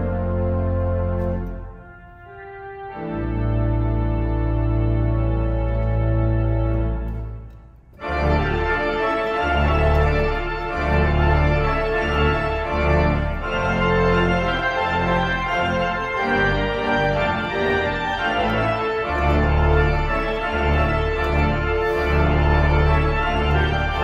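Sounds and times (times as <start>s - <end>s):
church organ chords: 0.0s - 24.0s.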